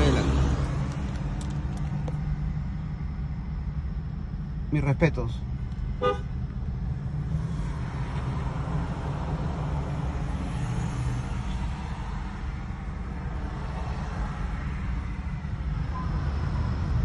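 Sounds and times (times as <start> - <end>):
idling vehicles rumbling: 0.0 - 17.0.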